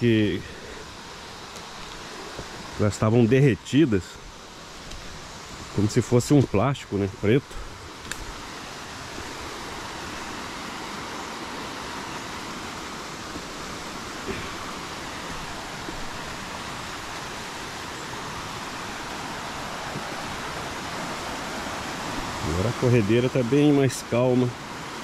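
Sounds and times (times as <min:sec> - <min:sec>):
river rapids rushing: 0:00.0 - 0:25.0.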